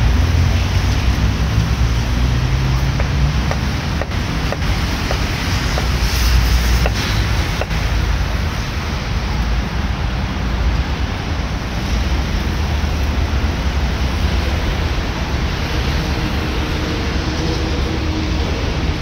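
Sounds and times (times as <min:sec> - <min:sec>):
rushing outdoor noise with low rumble: 0:00.0 - 0:19.0.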